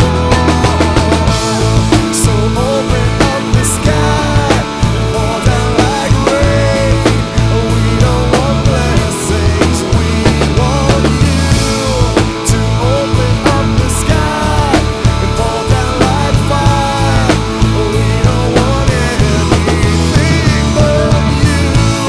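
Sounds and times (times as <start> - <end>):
rock band playing worship song: 0.0 - 22.0.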